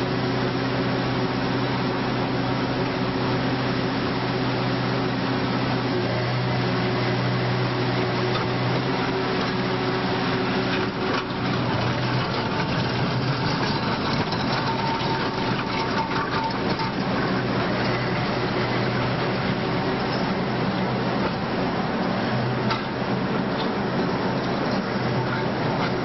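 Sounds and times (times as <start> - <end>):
streetcar humming: 0.0 - 26.0.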